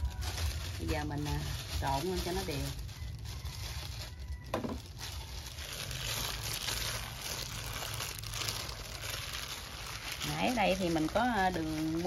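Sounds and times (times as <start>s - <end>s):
squishing meat mixing: 0.0s - 12.0s.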